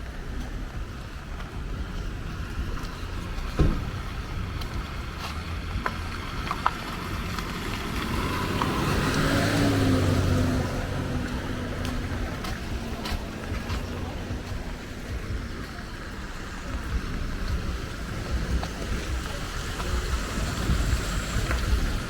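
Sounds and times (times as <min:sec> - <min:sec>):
low street rumble: 0:00.0 - 0:22.0
motor vehicle passing: 0:02.2 - 0:22.0.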